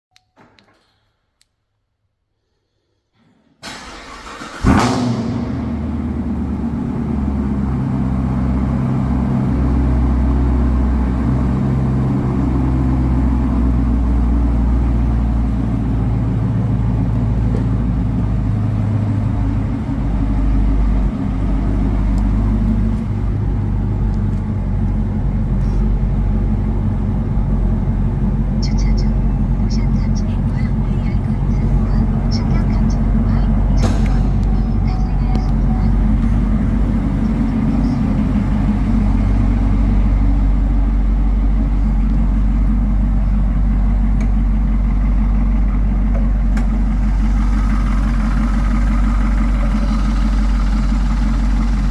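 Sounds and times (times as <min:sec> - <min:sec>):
car engine starting and idling: 0:03.6 - 0:51.9.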